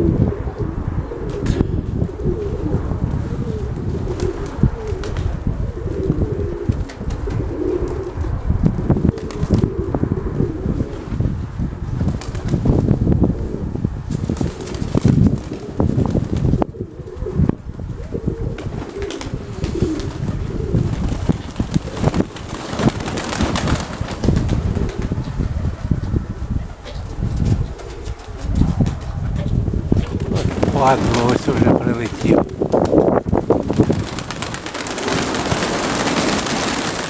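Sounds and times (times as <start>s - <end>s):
pigeons cooing: 0.0s - 11.2s, 13.3s - 37.0s
wind buffeting microphone: 0.0s - 37.0s.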